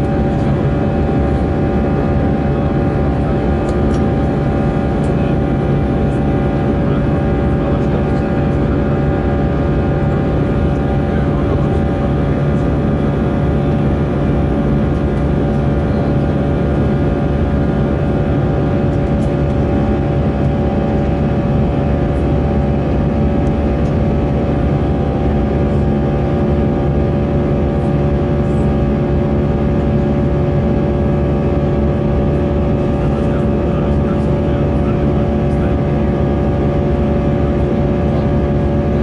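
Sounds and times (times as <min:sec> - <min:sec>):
constant hum tones: 0:00.0 - 0:39.0
jet engine drone: 0:00.0 - 0:39.0.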